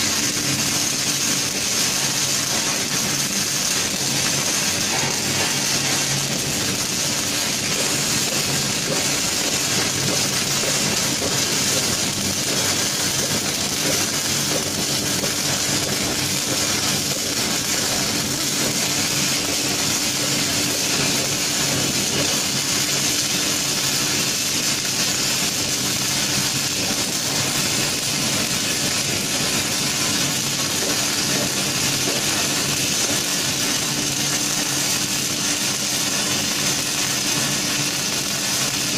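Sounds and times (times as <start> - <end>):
welding arc hissing: 0.0 - 38.9.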